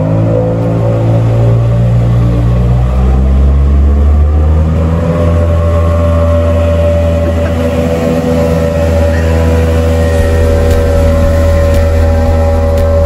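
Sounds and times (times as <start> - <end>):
motorboat engine running hard: 0.0 - 13.0.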